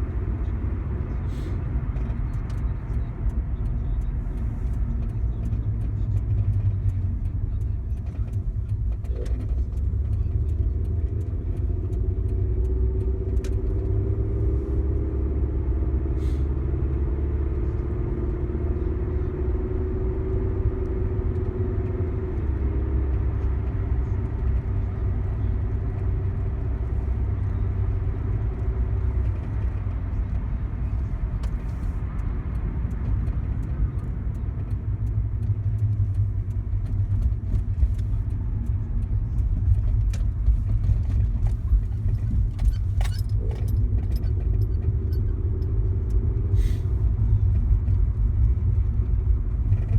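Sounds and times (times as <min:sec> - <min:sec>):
car engine rumble: 0:00.0 - 0:49.9.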